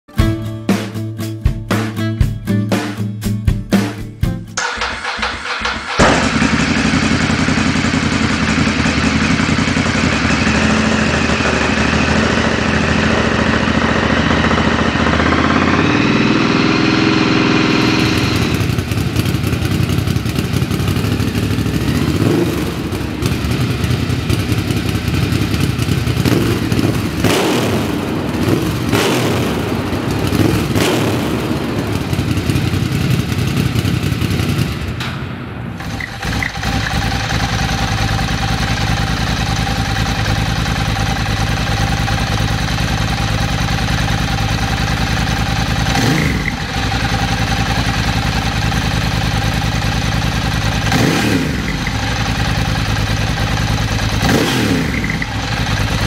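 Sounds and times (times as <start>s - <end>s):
motorcycle engine idling: 4.6s - 56.0s
motorcycle engine revving: 4.6s - 56.0s.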